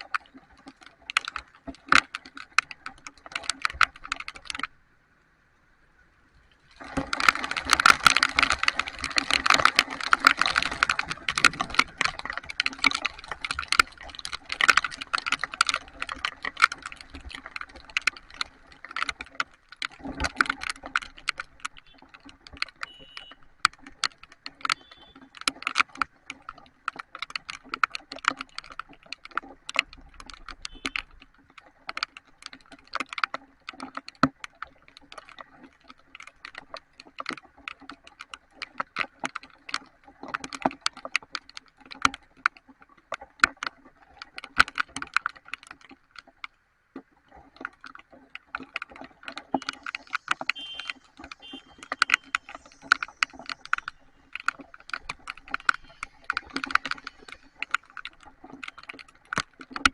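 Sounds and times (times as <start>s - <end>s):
raindrops tapping near microphone: 0.0s - 59.9s.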